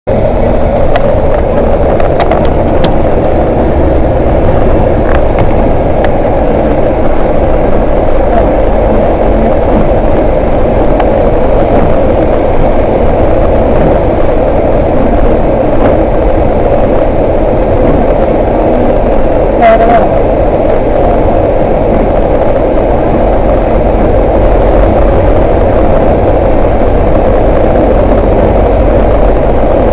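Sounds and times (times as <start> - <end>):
bus engine and road rumble: 0.0 - 29.9.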